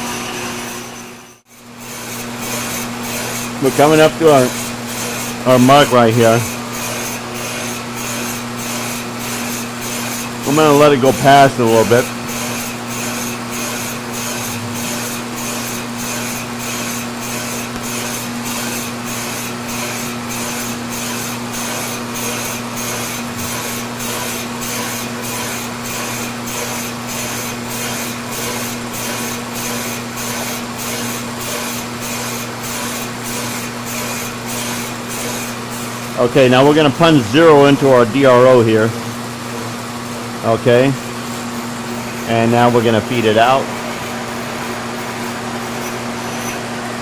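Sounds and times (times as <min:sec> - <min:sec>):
boring bar cutting rasping hiss: 0:00.0 - 0:47.0
machine hum: 0:00.0 - 0:47.0.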